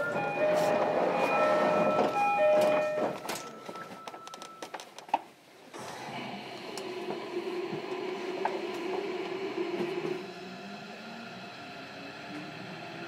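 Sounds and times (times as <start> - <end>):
steady train hum: 0.0 - 4.2, 5.8 - 13.0.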